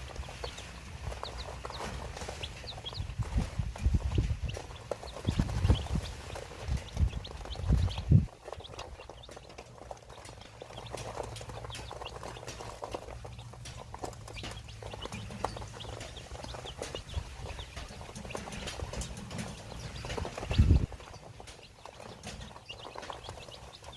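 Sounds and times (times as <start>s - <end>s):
chickens clicking and chirping: 0.0s - 23.9s.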